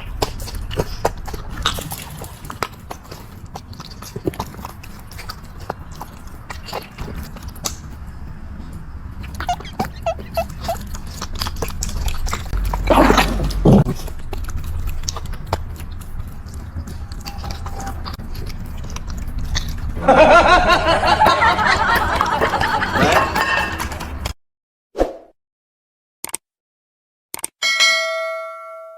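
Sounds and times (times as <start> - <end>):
dog chewing food: 0.0 - 24.3.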